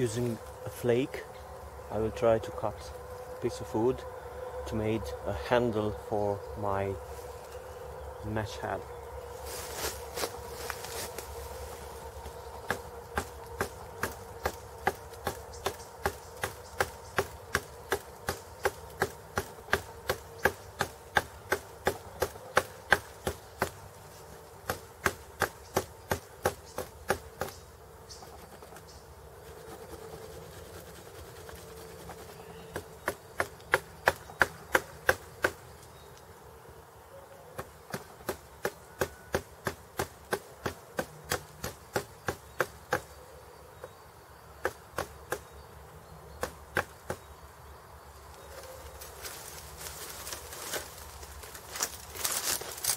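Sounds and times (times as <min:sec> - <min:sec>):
faint steady buzz: 0:00.0 - 0:52.9.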